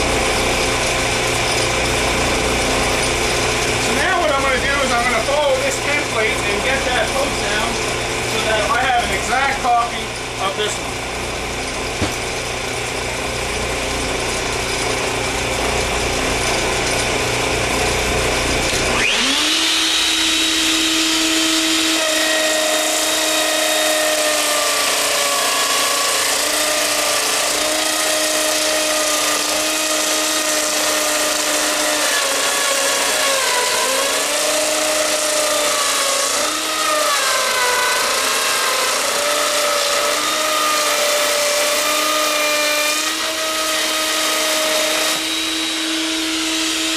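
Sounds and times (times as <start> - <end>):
router motor whine: 0.0 - 46.9
steady machine noise: 0.0 - 46.9.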